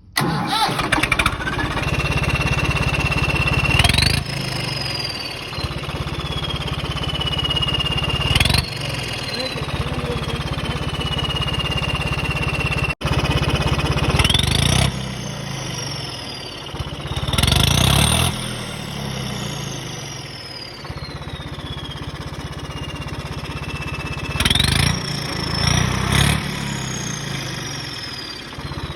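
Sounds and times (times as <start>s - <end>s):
tractor diesel engine revving: 0.0s - 28.9s
turbo whistle: 2.3s - 12.9s, 14.2s - 28.9s.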